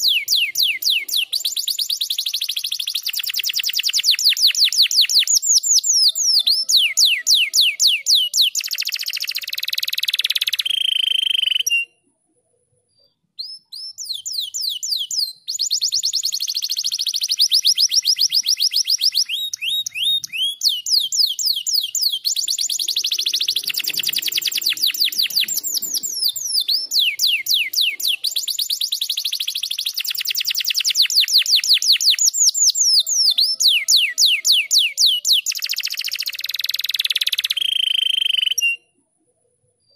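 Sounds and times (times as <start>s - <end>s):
canary singing trills: 0.0s - 12.1s, 13.0s - 39.0s.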